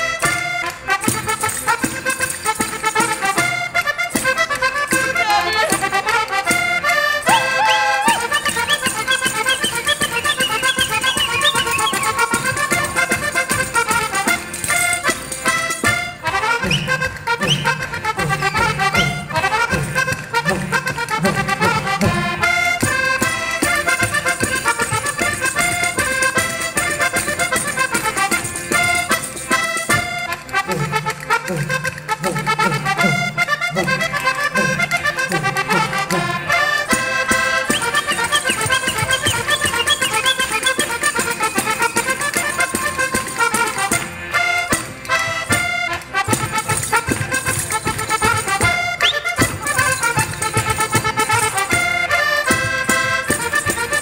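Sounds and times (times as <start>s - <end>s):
accordion: 0.0s - 54.0s
folk band playing dance tune: 0.0s - 54.0s
percussion beat: 0.0s - 54.0s.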